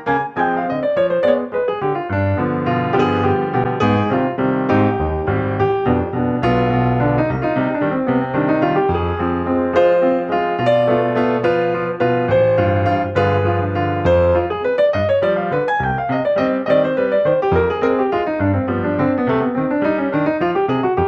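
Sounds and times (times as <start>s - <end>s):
piano-led tune: 0.0s - 21.0s.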